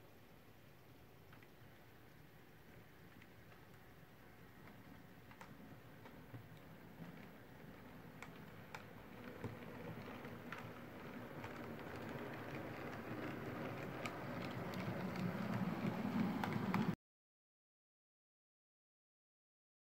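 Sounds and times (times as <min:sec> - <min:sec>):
model train rumbling along track: 0:00.0 - 0:17.0
faint clicks: 0:00.3 - 0:17.0.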